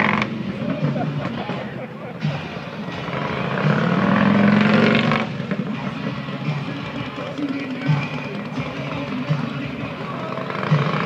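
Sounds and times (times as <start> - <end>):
crowd voices: 0.0 - 11.0
motorcycle engine revving: 0.0 - 11.0.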